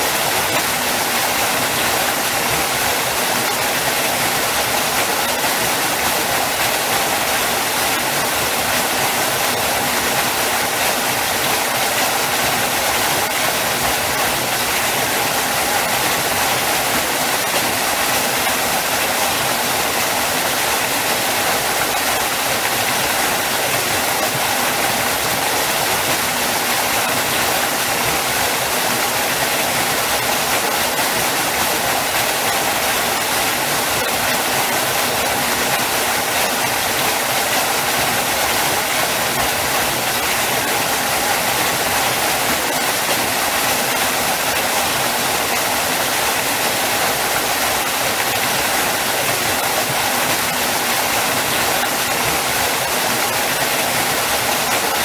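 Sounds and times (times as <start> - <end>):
waterfall crashing: 0.0 - 55.0.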